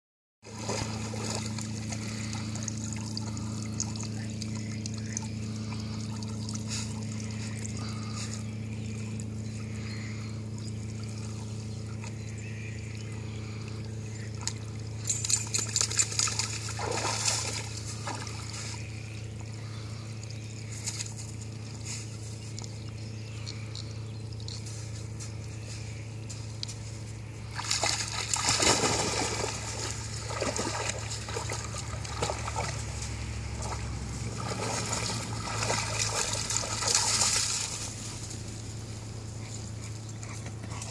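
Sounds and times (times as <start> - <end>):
water splashing and trickling: 0.4 - 26.0, 27.2 - 39.0
low hum: 0.4 - 40.9.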